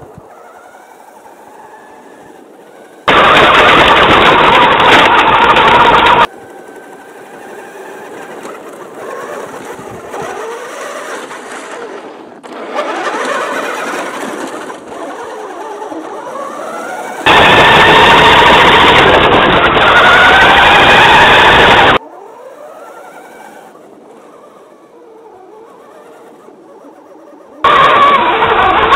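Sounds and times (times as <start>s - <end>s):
toy truck motor whining: 0.0s - 28.9s.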